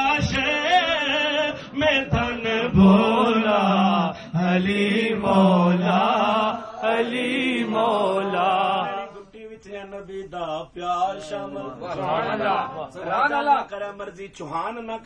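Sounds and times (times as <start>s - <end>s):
man chanting devotional refrain: 0.0s - 15.0s.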